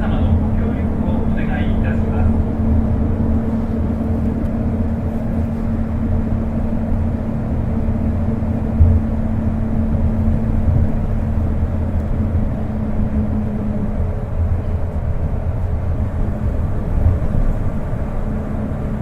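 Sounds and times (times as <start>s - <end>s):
train tyres rumbling: 0.0s - 19.0s.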